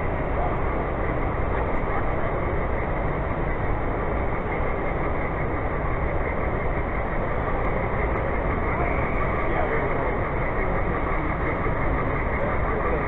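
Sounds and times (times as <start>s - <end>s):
crowded exhibition hall din: 0.0s - 5.5s, 6.1s - 13.0s.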